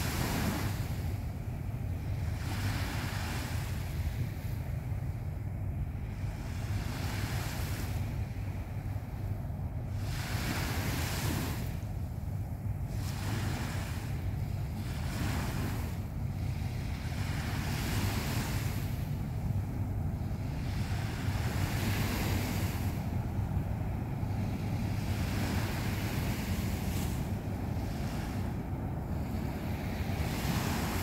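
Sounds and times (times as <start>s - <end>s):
small waves washing on shore: 0.0s - 31.0s.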